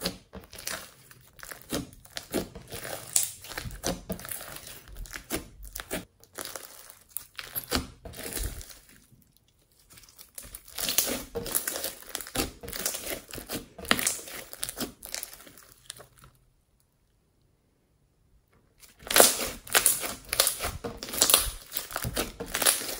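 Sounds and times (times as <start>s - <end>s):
slime squishing with crackles and pops: 0.0s - 17.3s, 18.6s - 22.9s.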